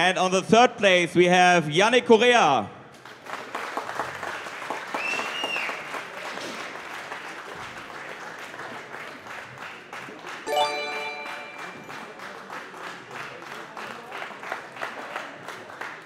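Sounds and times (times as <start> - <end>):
audience applauding: 3.1 - 16.0.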